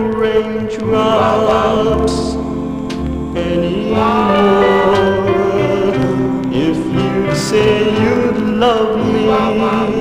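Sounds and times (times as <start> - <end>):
vocal harmony: 0.0 - 10.0
orchestral accompaniment: 0.1 - 10.0.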